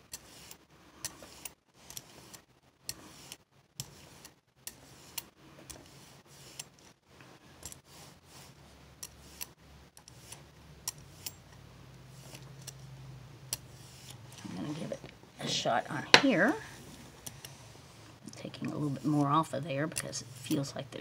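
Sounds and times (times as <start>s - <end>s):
rubber brayer rolling through paint: 0.2s - 11.2s, 13.6s - 21.0s.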